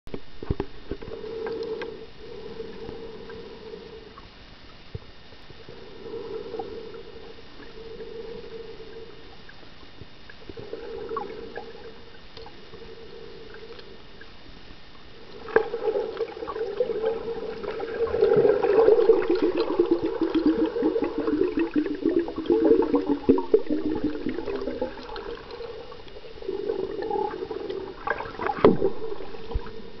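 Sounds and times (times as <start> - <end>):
crackling noise: 0.1 - 30.0
underwater gurgling: 0.2 - 30.0.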